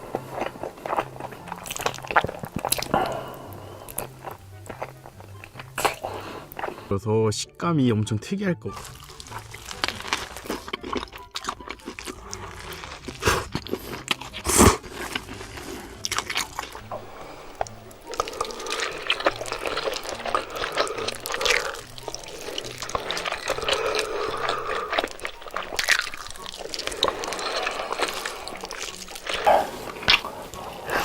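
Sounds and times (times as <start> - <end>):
crunchy bites and chewing: 0.0 - 6.9, 8.7 - 31.0.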